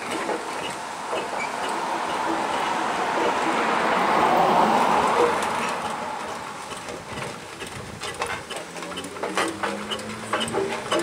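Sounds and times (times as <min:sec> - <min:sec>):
machine clanks and knocks: 0:00.0 - 0:03.5, 0:04.8 - 0:11.0.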